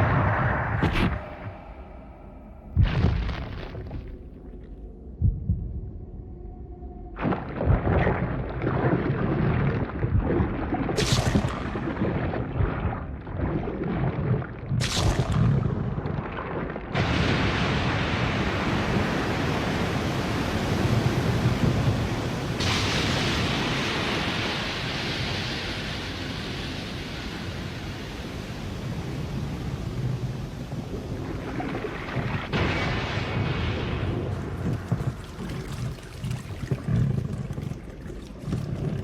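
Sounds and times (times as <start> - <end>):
deep rumbling noise: 0.0 - 39.0.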